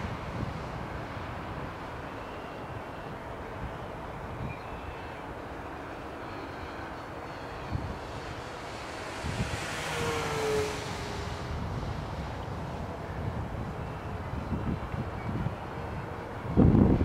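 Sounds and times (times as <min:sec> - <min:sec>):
model plane motors droning: 0:01.5 - 0:17.0.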